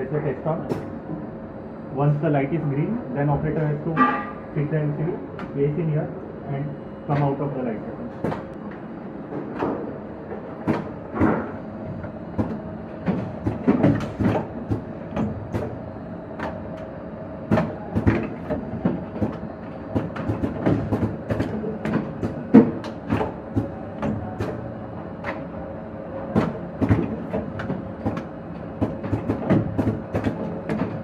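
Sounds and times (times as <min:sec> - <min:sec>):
steady machine hum: 0:00.0 - 0:31.0.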